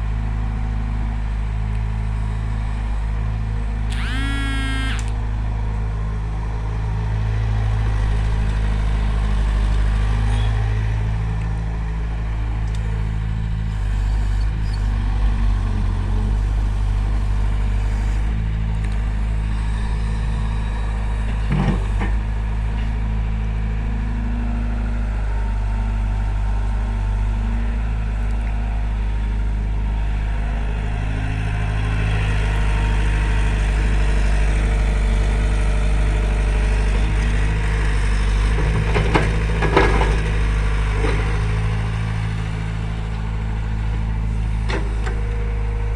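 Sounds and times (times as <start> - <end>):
diesel engine of heavy machinery: 0.0 - 45.9.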